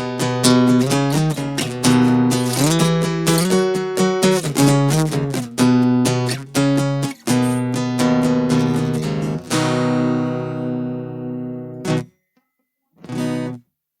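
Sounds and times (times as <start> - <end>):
acoustic guitar strummed chords: 0.0 - 12.2, 13.0 - 13.6.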